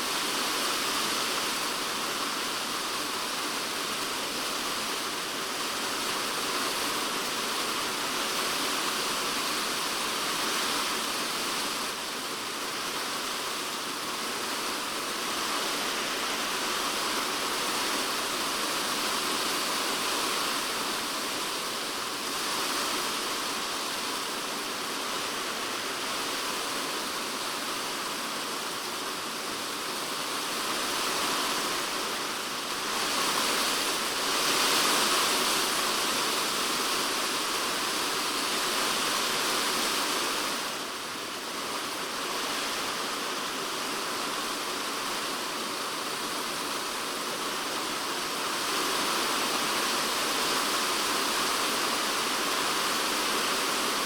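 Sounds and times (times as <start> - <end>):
rain on a plastic roof: 0.0 - 54.0.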